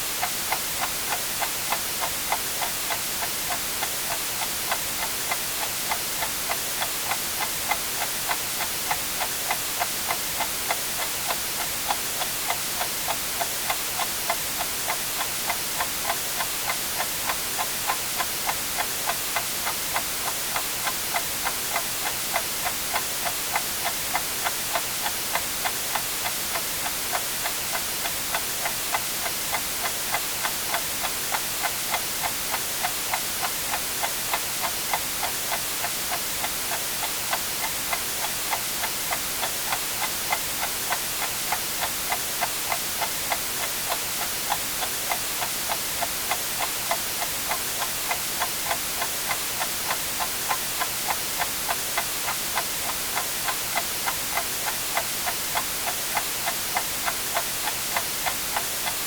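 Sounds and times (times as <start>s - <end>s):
white noise hiss: 0.0s - 59.0s
clock ticking: 0.2s - 59.0s.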